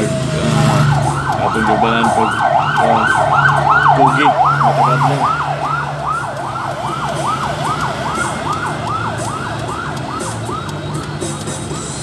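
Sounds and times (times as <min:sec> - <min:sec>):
low traffic hum: 0:00.0 - 0:12.0
siren in a fast yelp: 0:00.6 - 0:11.2.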